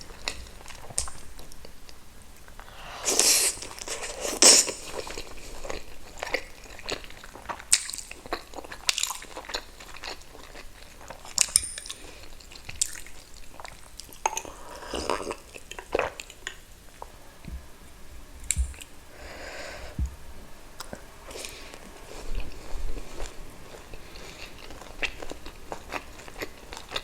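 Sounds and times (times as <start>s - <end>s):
person chewing food: 3.1s - 17.7s, 18.4s - 20.2s, 20.8s - 27.0s.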